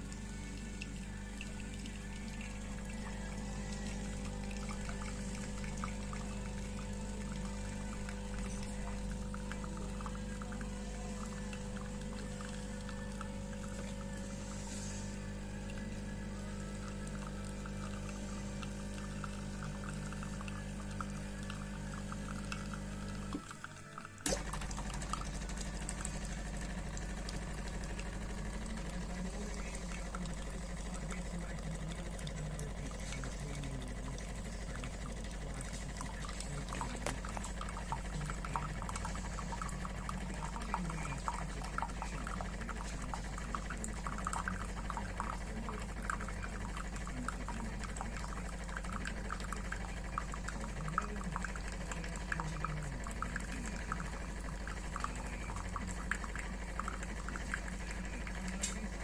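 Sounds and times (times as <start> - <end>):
espresso machine pump humming: 0.0 - 59.0
liquid gurgling and crackling: 0.0 - 59.0.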